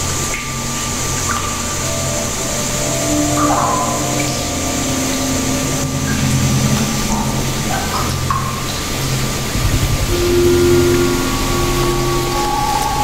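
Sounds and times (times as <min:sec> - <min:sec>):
slow music of long held notes: 0:00.0 - 0:13.0.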